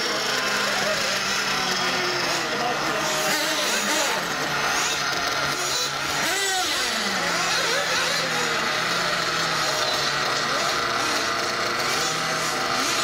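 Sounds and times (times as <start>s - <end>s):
rc buggy motors whining: 0.0s - 13.0s.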